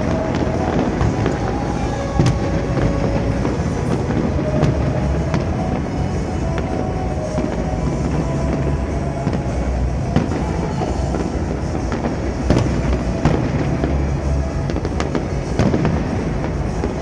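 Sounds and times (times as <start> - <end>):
fireworks bursting: 0.0 - 17.0
music playing: 0.0 - 17.0
sharp firework bangs: 0.0 - 17.0.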